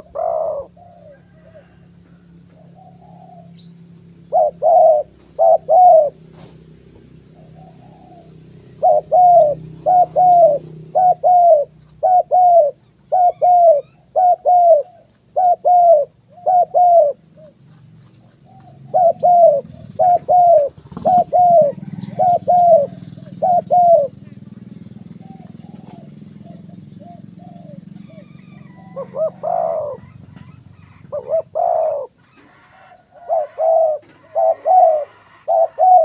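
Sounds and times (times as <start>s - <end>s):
doves cooing: 0.0s - 36.0s.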